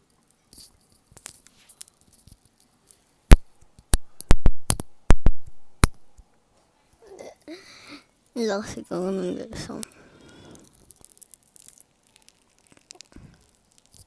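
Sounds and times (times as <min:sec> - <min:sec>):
popping candy crackling in mouth: 0:00.0 - 0:06.2, 0:09.0 - 0:14.0.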